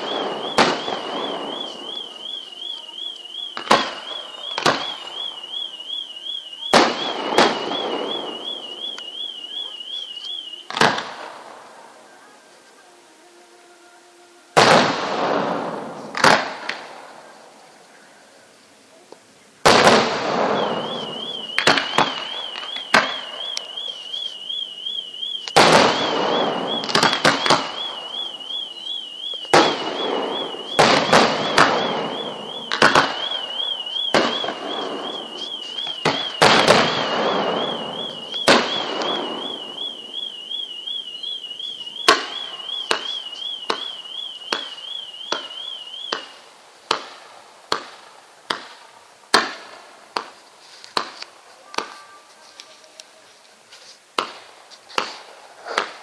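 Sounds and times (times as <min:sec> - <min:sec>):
fireworks bursting with crackle: 0:00.0 - 0:12.8, 0:14.5 - 0:17.9, 0:18.9 - 0:56.0.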